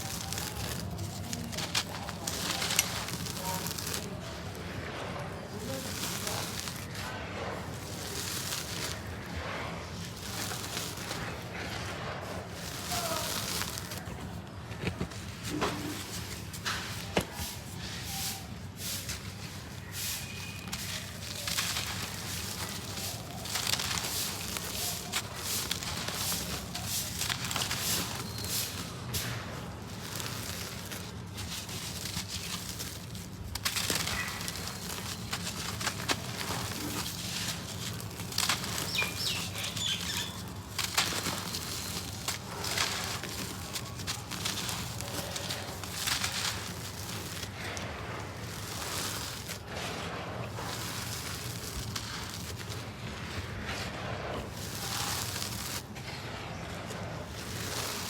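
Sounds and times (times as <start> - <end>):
cement crumbling and sifting: 0.0 - 58.0.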